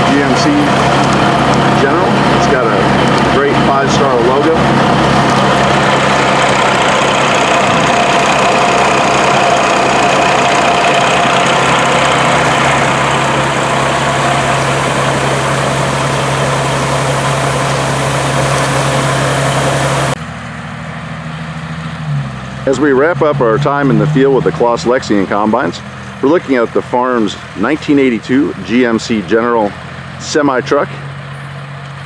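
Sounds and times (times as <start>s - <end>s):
heavy diesel truck engine running: 0.0s - 32.0s.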